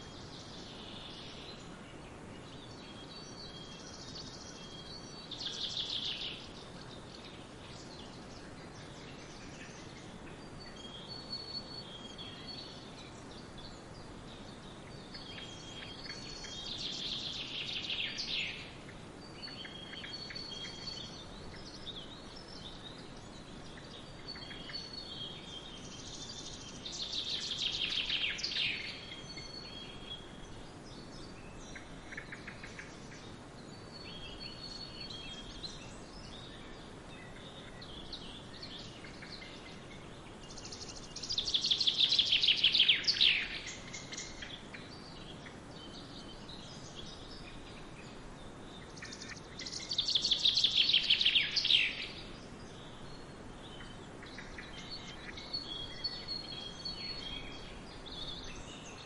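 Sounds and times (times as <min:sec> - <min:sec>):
background hiss: 0:00.0 - 0:59.0
rapid falling birdsong: 0:00.0 - 0:59.0
songbirds chirping and singing: 0:00.0 - 0:59.0.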